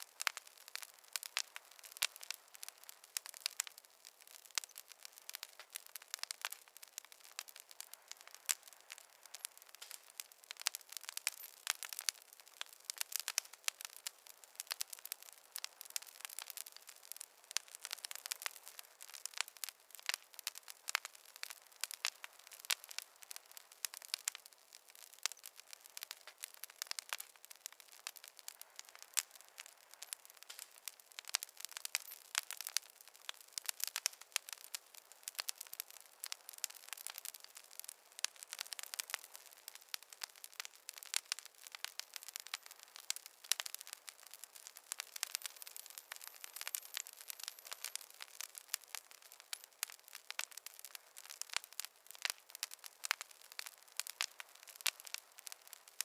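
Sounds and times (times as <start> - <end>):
faint hiss: 0.0 - 56.0
wood fire crackling: 0.0 - 56.0.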